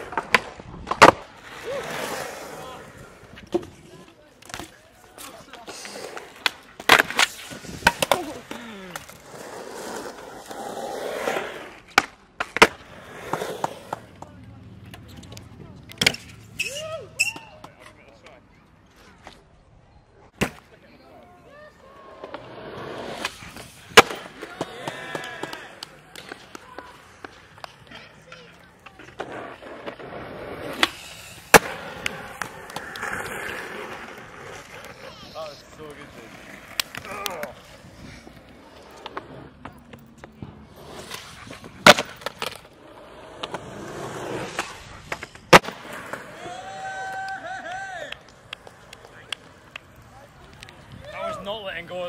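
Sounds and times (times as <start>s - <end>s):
skateboard clacking on ground: 0.0s - 19.5s, 22.0s - 51.9s
skateboard wheels rolling on concrete: 0.0s - 52.0s.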